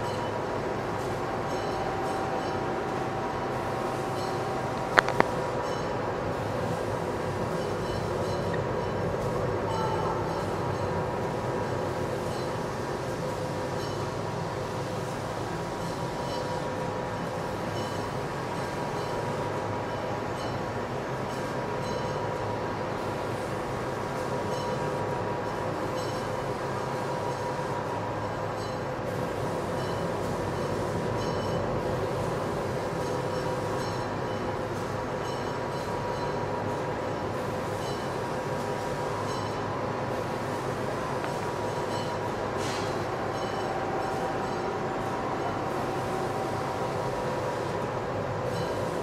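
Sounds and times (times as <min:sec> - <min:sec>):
steady machine hum: 0:00.0 - 0:49.0.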